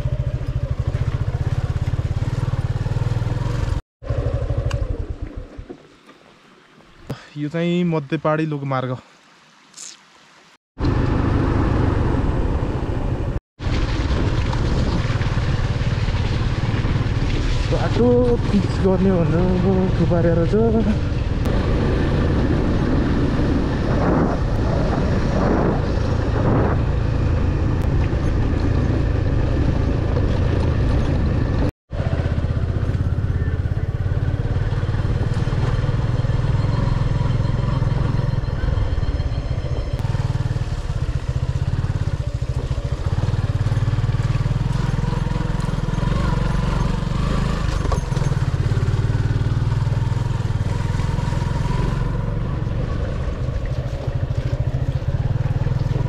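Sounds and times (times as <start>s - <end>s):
motorcycle engine running: 0.0s - 5.8s, 10.8s - 56.0s.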